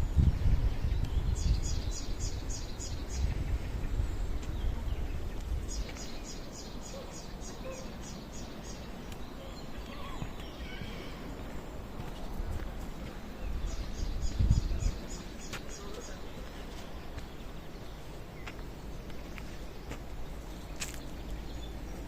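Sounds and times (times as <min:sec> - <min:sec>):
songbird singing high repeated notes: 0:00.0 - 0:11.4, 0:13.2 - 0:22.0
steady low rumble: 0:00.0 - 0:22.0.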